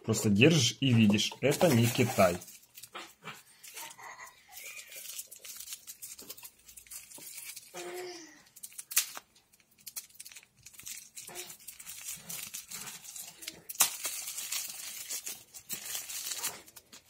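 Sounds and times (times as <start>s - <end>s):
bubble wrap crinkling: 0.9s - 17.0s
knife cutting bubble wrap: 1.5s - 8.2s, 9.9s - 17.0s.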